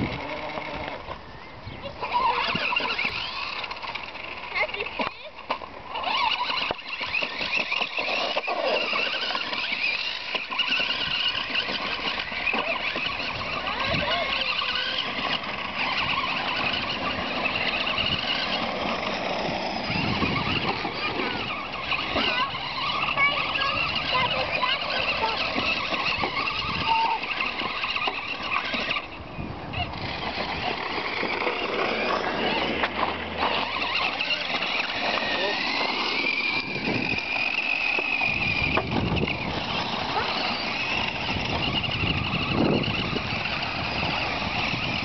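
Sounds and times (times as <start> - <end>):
rc buggy motor whining: 0.0 - 45.0
wheels knocking over stones: 2.1 - 45.0.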